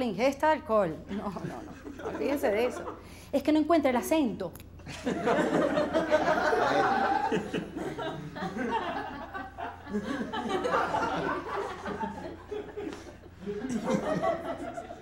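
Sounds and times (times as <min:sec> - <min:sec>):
studio audience laughing: 0:01.1 - 0:03.1, 0:04.8 - 0:15.0.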